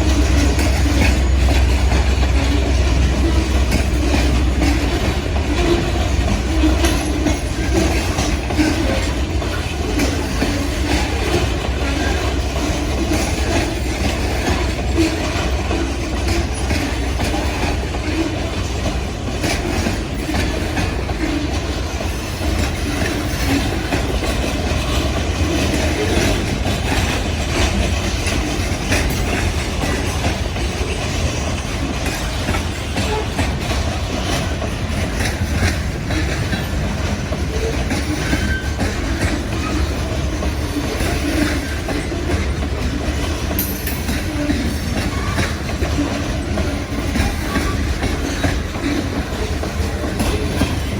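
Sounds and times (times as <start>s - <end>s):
freight train rumbling past: 0.0s - 50.9s
wheels clicking over rail joints: 0.0s - 50.9s.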